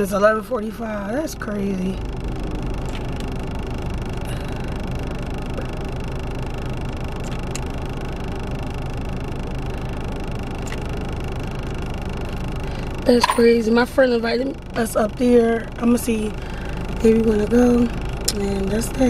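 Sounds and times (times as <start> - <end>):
car engine idling: 0.0 - 19.0
ventilation fan: 0.0 - 19.0.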